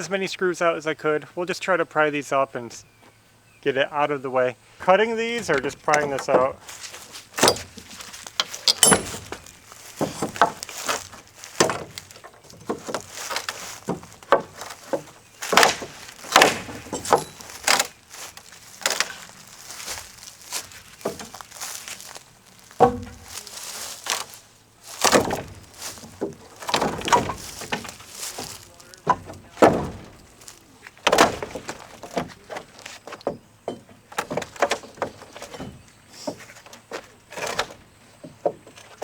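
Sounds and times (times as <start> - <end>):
wood cracking and thudding: 4.8 - 39.0.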